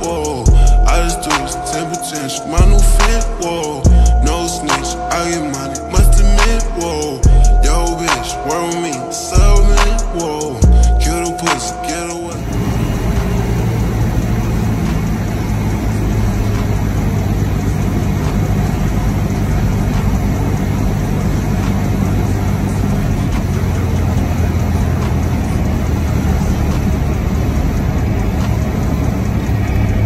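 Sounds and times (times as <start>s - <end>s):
airplane engine droning: 0.0s - 30.0s.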